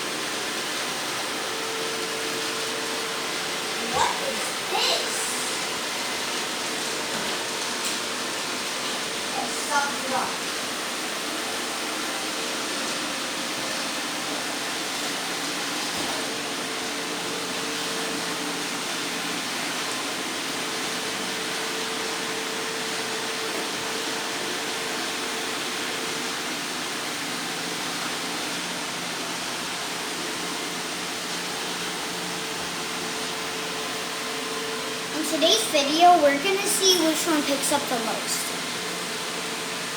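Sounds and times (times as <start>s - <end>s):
robot vacuum cleaners whirring: 0.0s - 39.9s.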